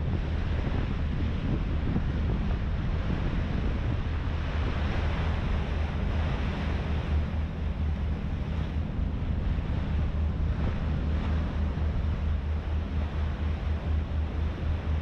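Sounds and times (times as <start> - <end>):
ferry engine drone: 0.0 - 15.0
water rushing along hull: 0.0 - 15.0
wind buffeting microphone: 0.0 - 15.0.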